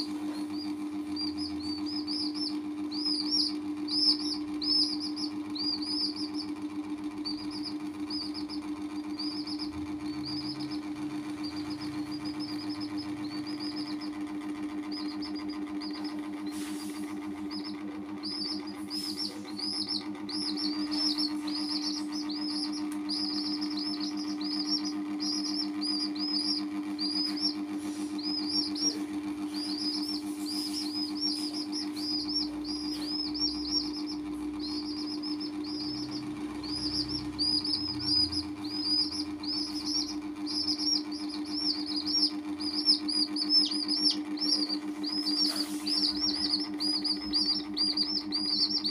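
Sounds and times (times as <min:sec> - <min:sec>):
baby chicks peeping: 0:00.0 - 0:48.9
steady low hum: 0:00.0 - 0:48.9.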